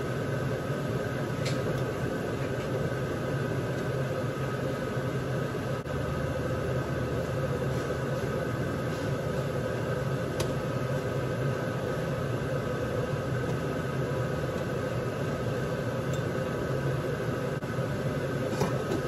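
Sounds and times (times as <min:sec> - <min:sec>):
kitchen hum: 0:00.0 - 0:19.0.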